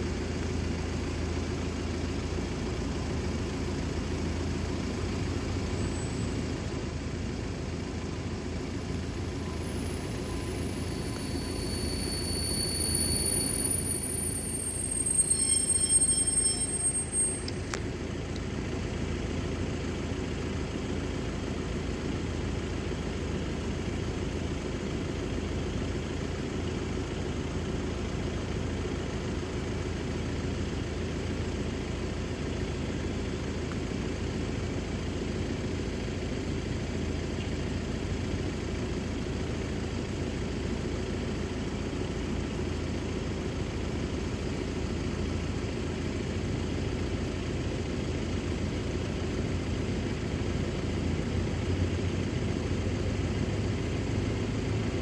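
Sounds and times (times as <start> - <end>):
diesel train engine idling: 0.0 - 52.8.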